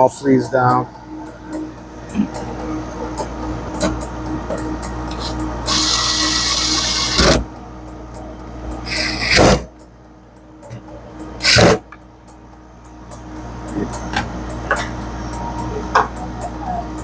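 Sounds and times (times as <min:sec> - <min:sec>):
beverage machine humming: 0:00.0 - 0:17.0.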